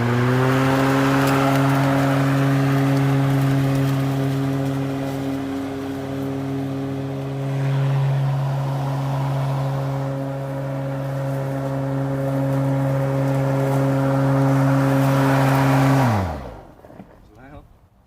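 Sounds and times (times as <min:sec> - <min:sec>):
electric lawn mower cutting grass: 0:00.0 - 0:17.1.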